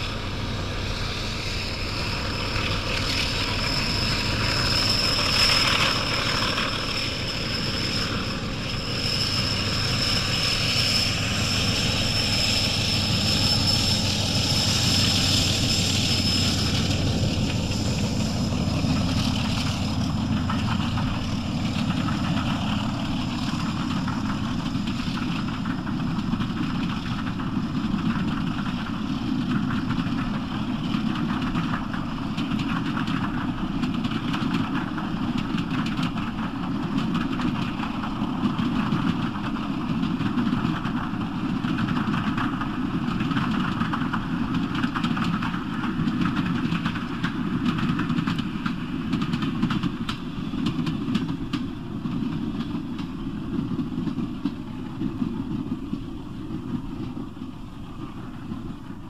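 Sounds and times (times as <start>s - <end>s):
diesel locomotive working hard: 0.0s - 59.0s.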